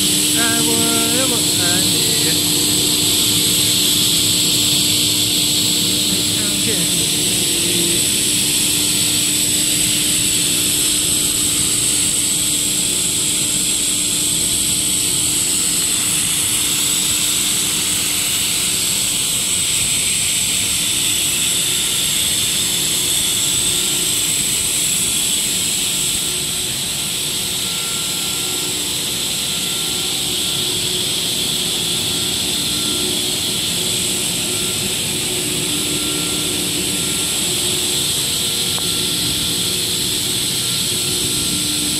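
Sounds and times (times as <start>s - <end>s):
machinery hissing and humming: 0.0s - 41.9s.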